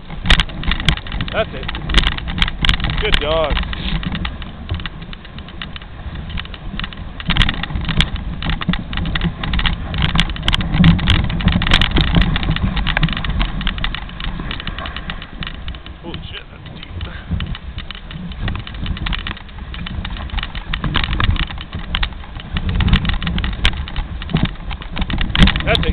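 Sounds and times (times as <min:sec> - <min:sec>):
sled rattling clicks and knocks: 0:00.0 - 0:25.9
sled runners rumbling on snow: 0:00.0 - 0:25.9.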